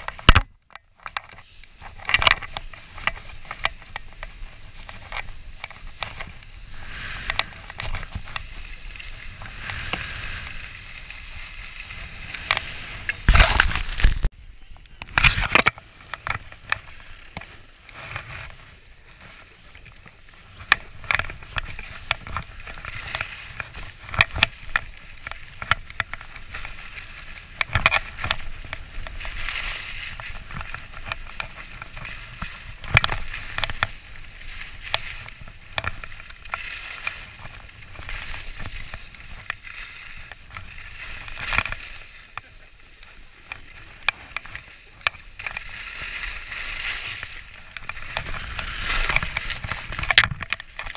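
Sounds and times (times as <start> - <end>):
ski clicks and knocks: 0.0 - 50.9
skis scraping on snow: 1.4 - 14.3, 15.2 - 50.9.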